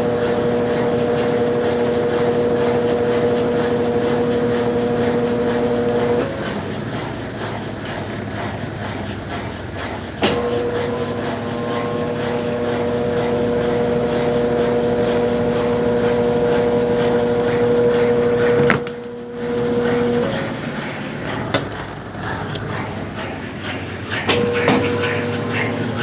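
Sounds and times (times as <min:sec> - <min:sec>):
washing machine agitating: 0:00.0 - 0:26.0
washing machine motor humming: 0:00.0 - 0:26.0.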